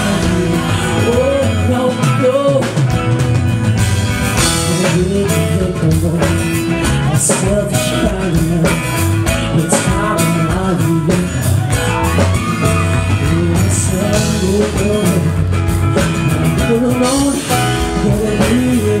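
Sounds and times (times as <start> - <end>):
man singing lead vocal: 0.0 - 3.2, 4.4 - 19.0
bass guitar: 0.0 - 19.0
electric guitar: 0.0 - 19.0
steady drum beat: 0.0 - 19.0.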